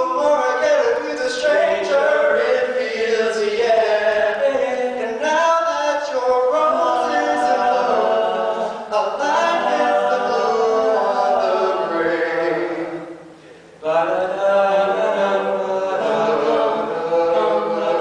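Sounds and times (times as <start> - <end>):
male quartet singing in harmony: 0.0 - 18.0.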